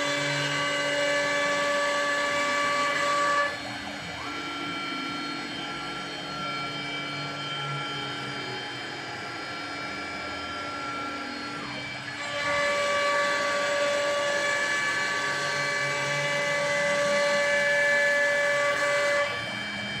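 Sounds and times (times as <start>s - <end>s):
cnc router spindle whining: 0.0s - 20.0s.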